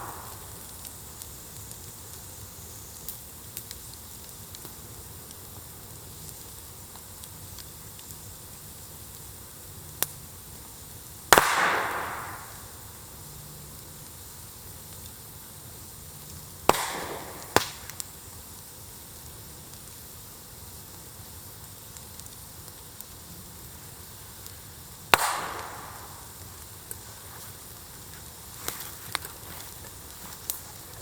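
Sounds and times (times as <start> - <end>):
bonfire popping with hiss: 0.0 - 31.0
faint fire crackles: 0.0 - 31.0.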